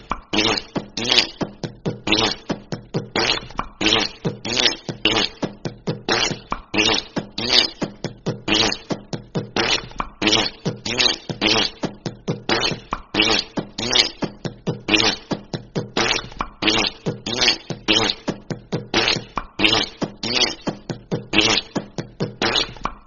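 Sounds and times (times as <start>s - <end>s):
fart sounds: 0.0s - 23.0s.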